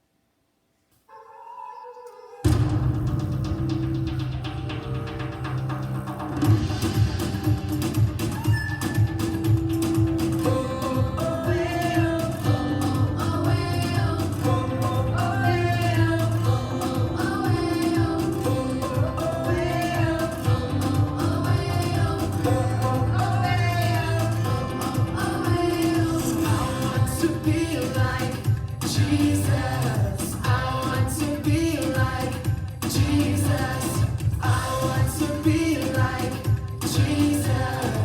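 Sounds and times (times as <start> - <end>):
singing over instrumental backing: 6.4 - 38.0.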